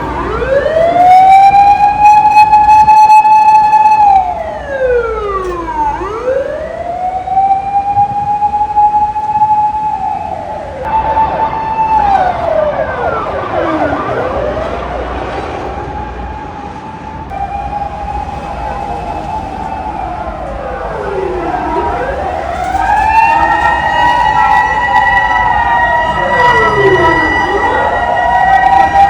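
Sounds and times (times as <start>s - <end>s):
second higher siren wail: 0.0s - 29.0s
siren wailing: 0.0s - 29.0s.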